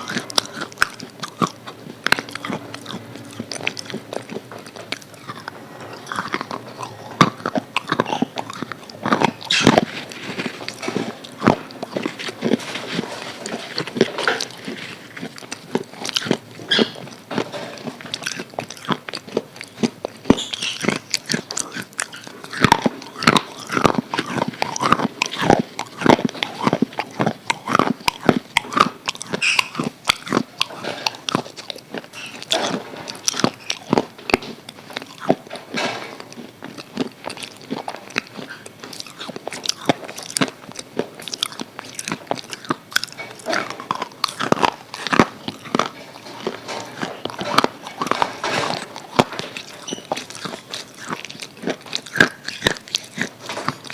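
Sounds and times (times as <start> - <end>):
chewing: 0.0 - 53.9
crunching fried chicken bites: 0.0 - 53.9.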